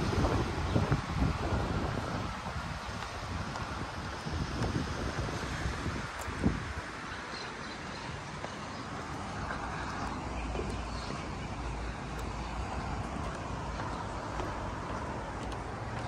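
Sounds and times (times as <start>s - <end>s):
wind: 0.0s - 16.0s
wind rumbling on microphone: 0.0s - 16.0s.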